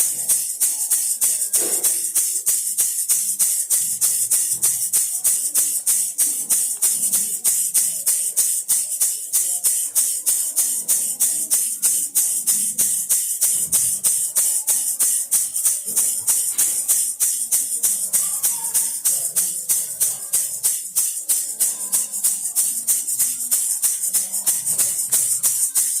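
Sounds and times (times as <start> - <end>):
baby rattle shaking: 0.0 - 26.0.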